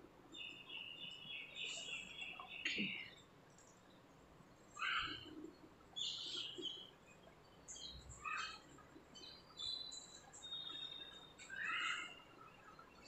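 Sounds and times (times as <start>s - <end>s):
small birds chirping: 0.2s - 13.0s.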